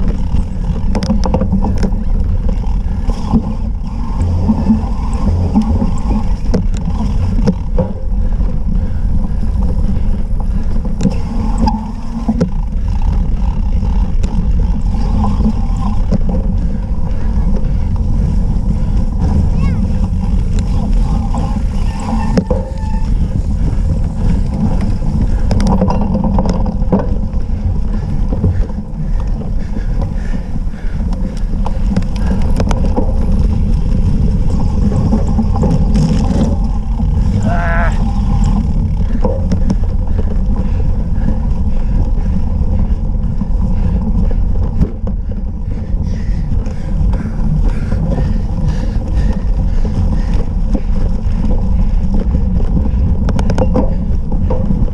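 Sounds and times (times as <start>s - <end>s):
bike rattling over rough grass: 0.0s - 54.9s
wheels knocking on bumps: 0.0s - 54.9s
wind buffeting microphone: 0.0s - 54.9s.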